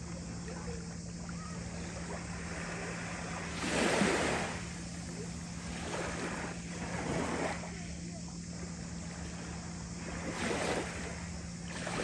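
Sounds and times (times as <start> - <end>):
faint low hum: 0.0 - 12.0
small waves lapping on shore: 0.0 - 12.0.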